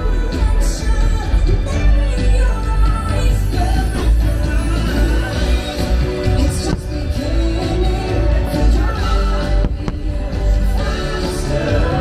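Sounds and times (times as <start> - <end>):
music over loudspeakers: 0.0 - 12.0.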